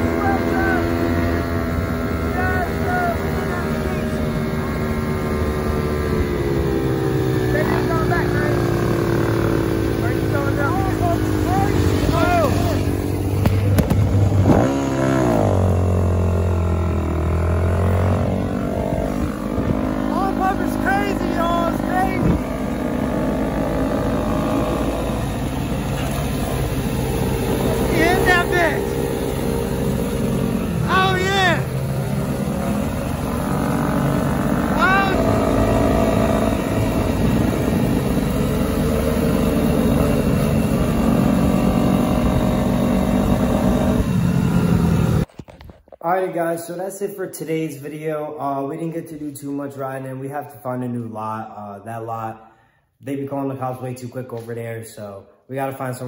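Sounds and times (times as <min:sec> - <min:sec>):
dirt bike engine droning: 0:00.0 - 0:45.3.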